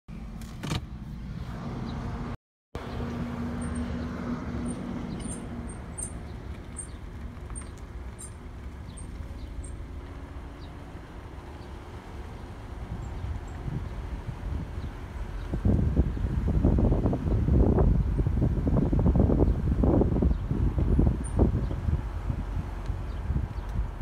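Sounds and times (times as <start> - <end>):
low road rumble: 0.1 - 24.0.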